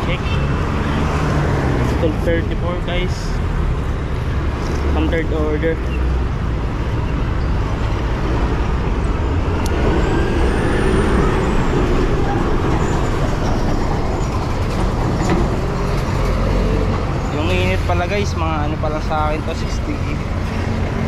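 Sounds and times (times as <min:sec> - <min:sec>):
heavy vehicle running close by: 0:00.0 - 0:21.0
street traffic: 0:00.0 - 0:21.0.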